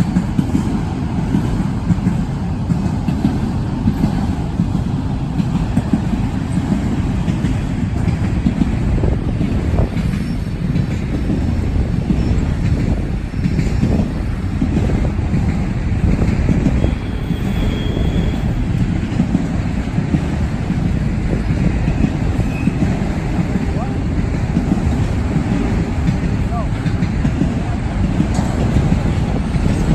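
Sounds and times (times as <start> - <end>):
train cars clanking: 0.0 - 29.9
train wheels rumbling on rail: 0.0 - 29.9.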